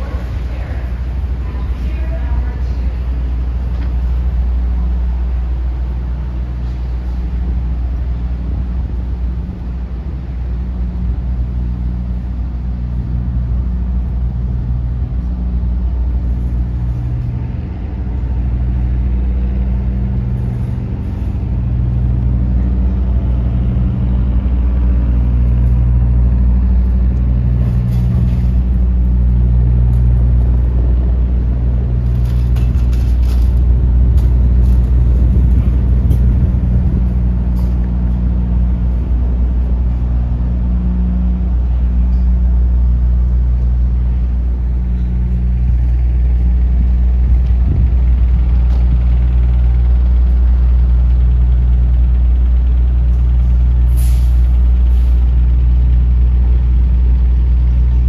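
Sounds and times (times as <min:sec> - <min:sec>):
throbbing engine drone: 0:00.0 - 0:58.0
wind rumble on microphone: 0:00.0 - 0:58.0.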